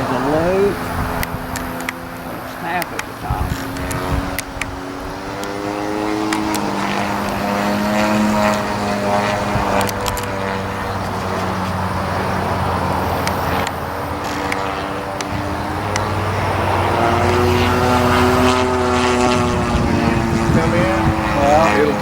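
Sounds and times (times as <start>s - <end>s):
model airplane gas engine: 0.0s - 22.0s.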